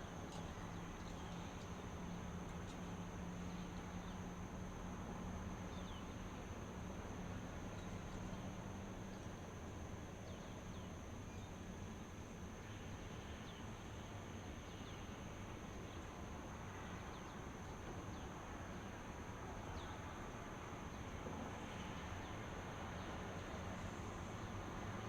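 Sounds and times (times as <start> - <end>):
insect drone: 0.0 - 25.0
steady hiss: 0.0 - 25.0.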